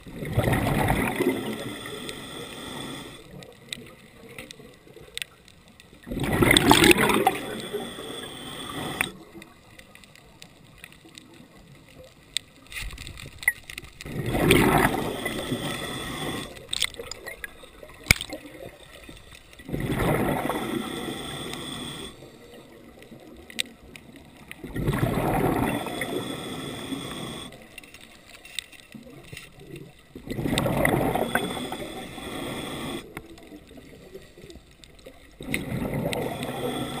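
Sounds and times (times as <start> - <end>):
underwater bubbles gurgling: 0.0 - 37.0
small clicks: 1.0 - 37.0.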